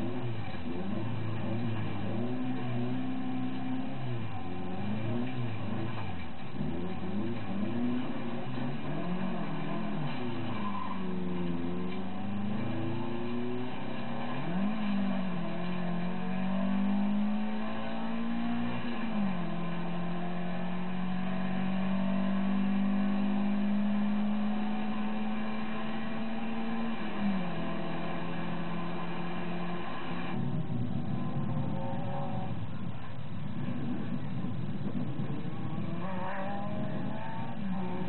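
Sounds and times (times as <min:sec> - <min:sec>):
car engine accelerating hard: 0:00.0 - 0:38.0.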